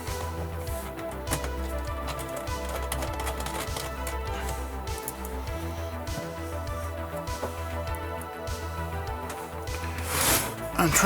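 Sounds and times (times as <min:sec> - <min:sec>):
electronic music with synth tones: 0:00.0 - 0:11.0.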